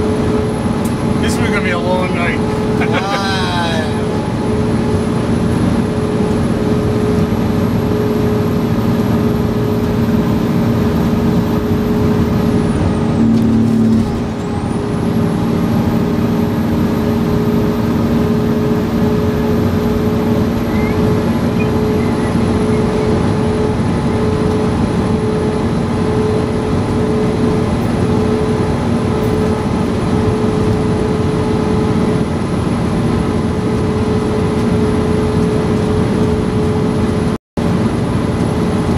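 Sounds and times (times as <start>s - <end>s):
fire engine driving: 0.0s - 38.9s.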